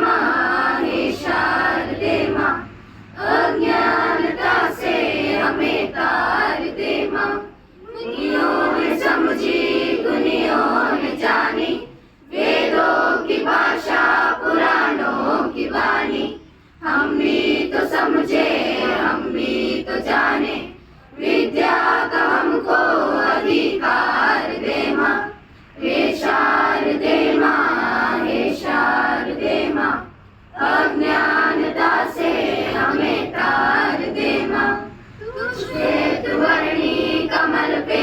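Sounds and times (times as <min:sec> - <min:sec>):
choir singing: 0:00.0 - 0:38.0.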